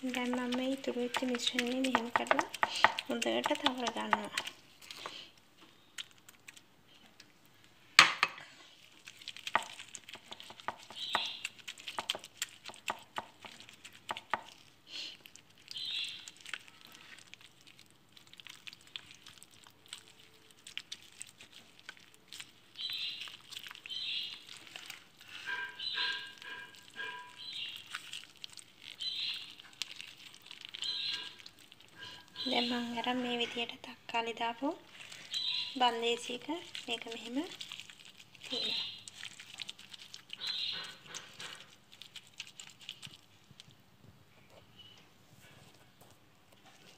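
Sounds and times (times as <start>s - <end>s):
wet paste squelching: 0.0s - 6.7s, 8.4s - 43.8s
plastic gloves crinkling: 0.0s - 46.9s.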